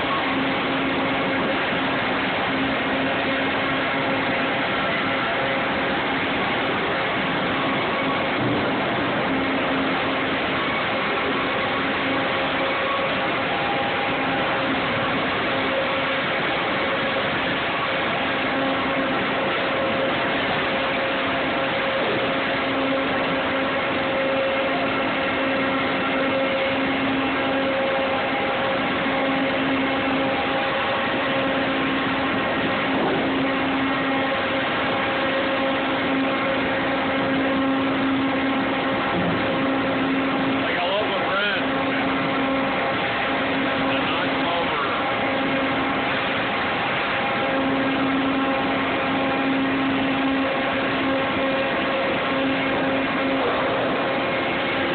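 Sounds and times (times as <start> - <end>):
droning hum: 0.0 - 54.9
sawmill machinery running: 0.0 - 54.9.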